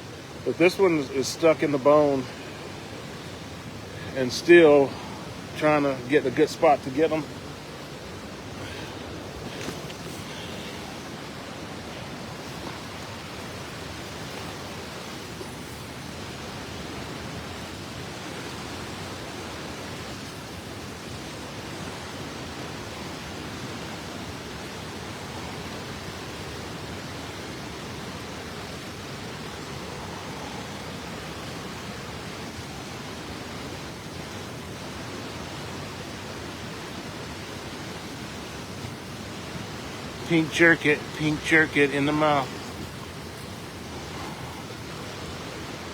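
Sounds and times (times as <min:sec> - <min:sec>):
swift river water: 0:00.0 - 0:45.9
waterfall rushing: 0:00.0 - 0:45.9.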